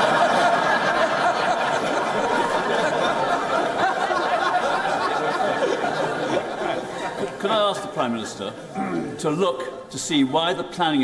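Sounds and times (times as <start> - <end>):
crowd laughing: 0.0 - 9.2.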